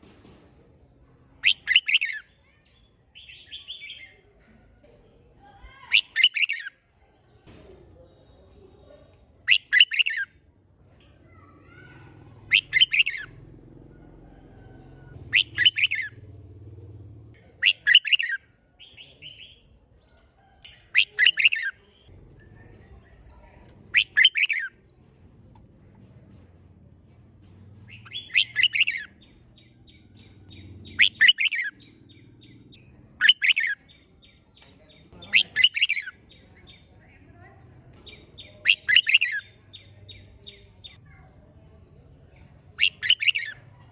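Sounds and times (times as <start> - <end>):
bird singing chirpy phrases: 1.3 - 4.9, 5.6 - 7.2, 8.0 - 13.6, 15.2 - 19.8, 20.4 - 43.9.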